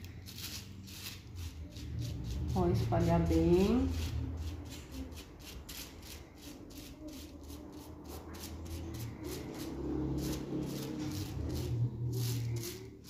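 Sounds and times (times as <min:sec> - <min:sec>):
brush swishing on hair: 0:00.3 - 0:13.0.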